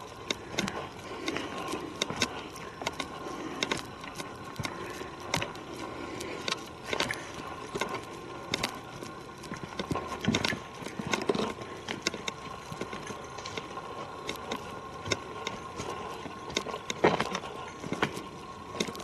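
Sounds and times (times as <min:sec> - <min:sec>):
footsteps on a forest trail: 0:00.0 - 0:19.0.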